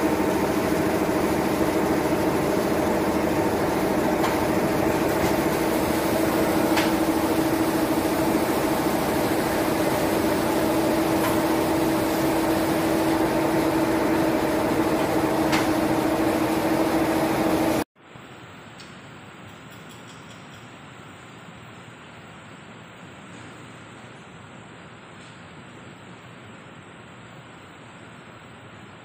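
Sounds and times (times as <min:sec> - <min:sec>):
machine droning hum: 0:00.0 - 0:29.0.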